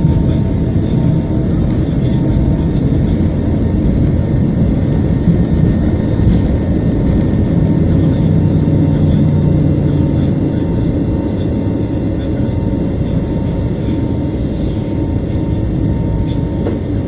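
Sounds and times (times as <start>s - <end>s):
jet engines roaring in cabin: 0.0s - 17.0s
low drone: 0.0s - 17.0s.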